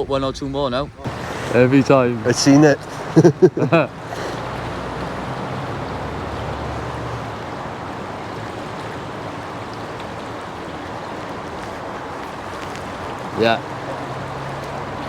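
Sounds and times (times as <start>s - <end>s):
river water rushing over stones: 1.0s - 15.0s.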